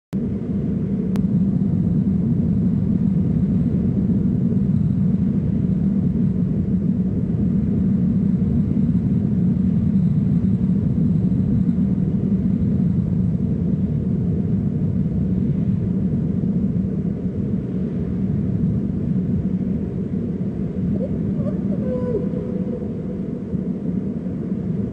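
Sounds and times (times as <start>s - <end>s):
steady low rumble: 0.1s - 24.9s.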